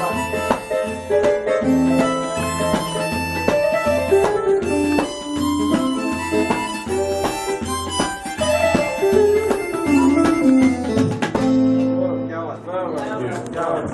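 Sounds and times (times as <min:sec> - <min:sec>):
electronic keyboard with steady beat: 0:00.0 - 0:12.1
harmonica melody: 0:00.0 - 0:12.8.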